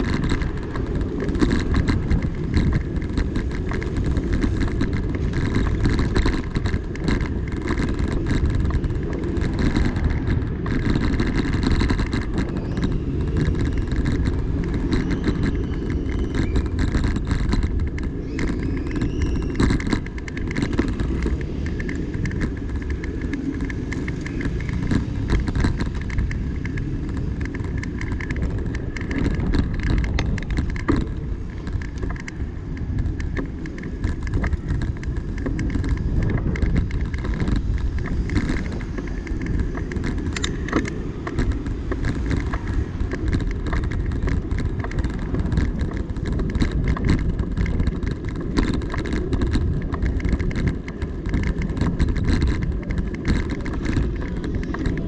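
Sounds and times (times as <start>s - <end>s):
low road rumble: 0.0s - 55.0s
small rattles and clicks: 0.0s - 55.0s
wind on microphone: 0.0s - 55.0s.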